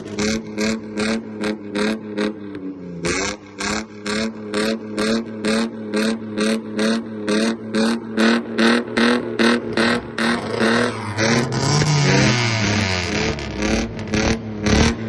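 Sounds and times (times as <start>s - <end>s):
car engine revving: 0.0s - 15.0s
exhaust crackling and popping: 0.0s - 15.0s.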